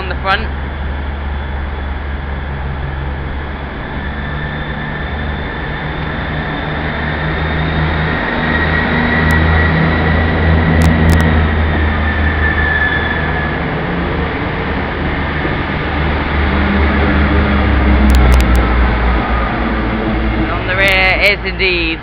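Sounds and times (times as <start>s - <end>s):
diesel train engine drone: 0.0s - 22.0s
thin high whine: 0.0s - 22.0s.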